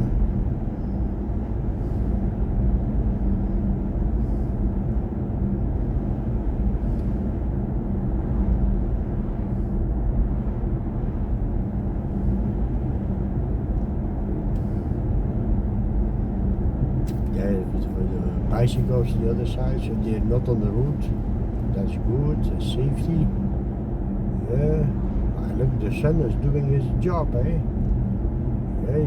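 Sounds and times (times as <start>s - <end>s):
low steady hum: 0.0s - 29.0s
road and tyre noise in car cabin: 0.0s - 29.0s.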